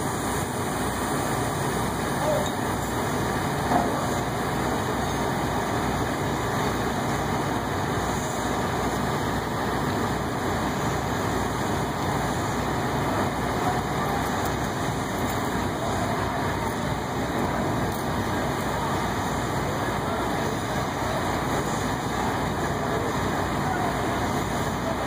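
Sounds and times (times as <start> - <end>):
diesel machinery droning: 0.0 - 25.0.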